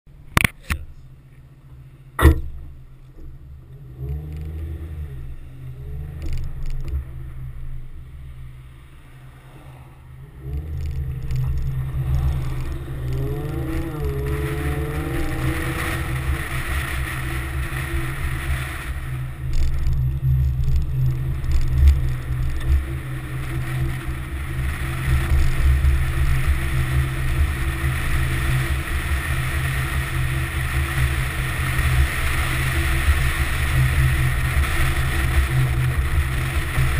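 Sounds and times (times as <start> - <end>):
car engine accelerating: 0.1 - 36.9
low engine rumble: 0.1 - 36.9.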